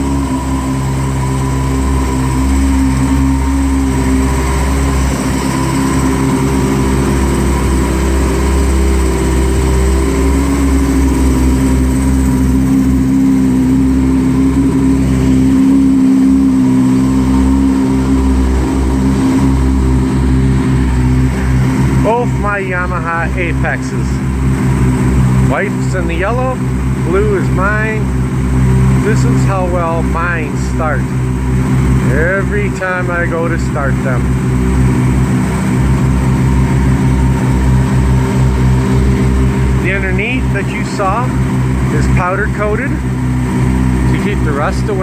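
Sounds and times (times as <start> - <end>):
snowmobile engine running: 0.0 - 45.0.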